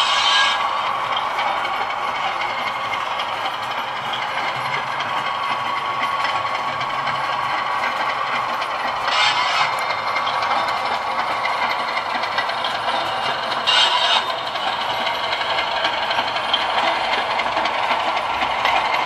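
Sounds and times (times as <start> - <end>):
diesel engine sound through small speaker: 0.0 - 19.0.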